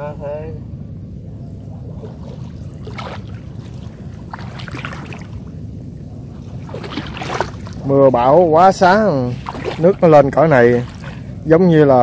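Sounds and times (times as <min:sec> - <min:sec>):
low rumble: 0:00.0 - 0:12.0
water splashing and sloshing: 0:01.4 - 0:12.0.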